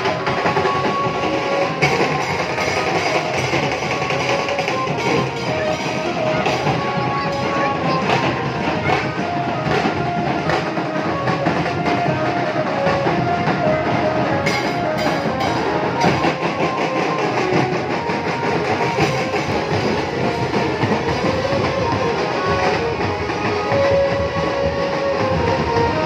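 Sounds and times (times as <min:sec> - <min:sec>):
loud music with drums: 0:00.0 - 0:26.0.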